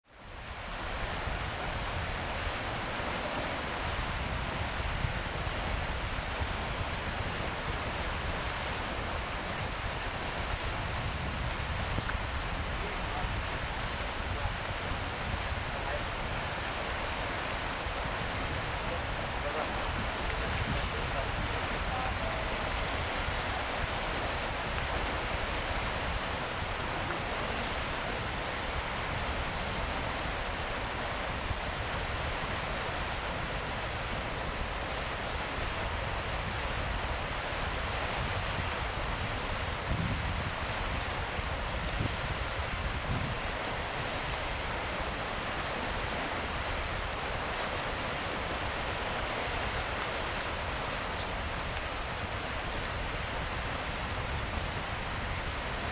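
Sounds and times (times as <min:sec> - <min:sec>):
surf waves washing on rocks: 0:00.2 - 0:55.9.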